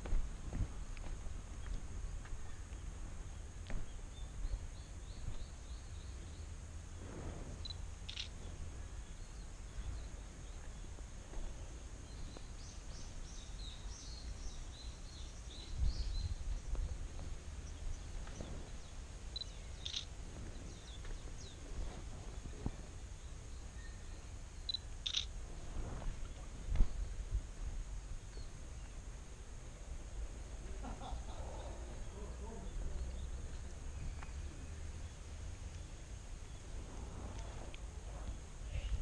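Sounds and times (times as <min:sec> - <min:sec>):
low background noise: 0:00.0 - 0:39.0
small birds chirping: 0:00.6 - 0:06.8, 0:07.6 - 0:27.4, 0:28.0 - 0:36.8.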